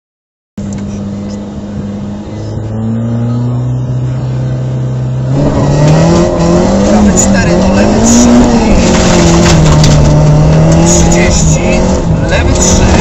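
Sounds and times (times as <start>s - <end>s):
car engine revving: 0.6s - 13.0s.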